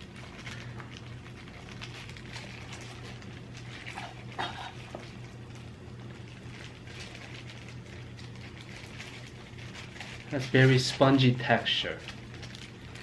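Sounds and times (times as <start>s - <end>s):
close-up chewing: 0.0s - 10.5s.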